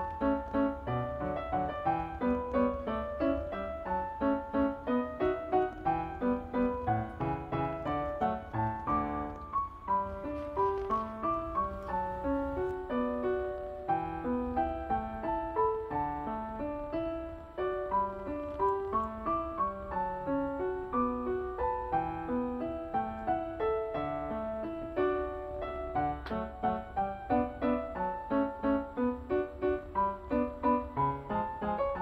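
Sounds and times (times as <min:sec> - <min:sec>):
piano melody: 0:00.0 - 0:32.0.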